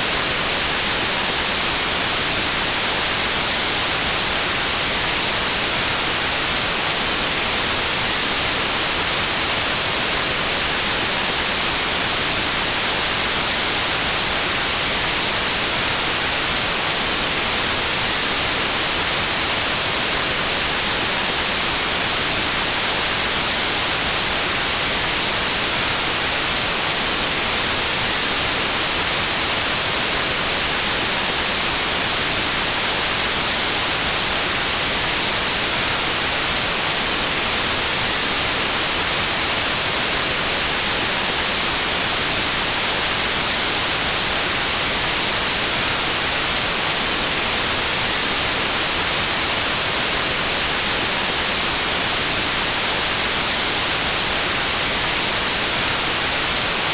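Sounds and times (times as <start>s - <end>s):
steady white noise hiss: 0.0s - 56.9s.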